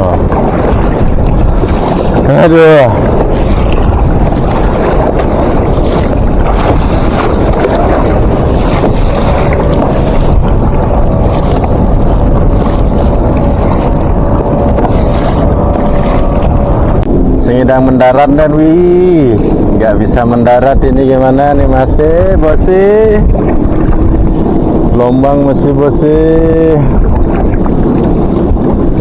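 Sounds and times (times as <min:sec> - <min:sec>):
rushing waves: 0:00.0 - 0:29.0
wind buffeting microphone: 0:00.0 - 0:29.0.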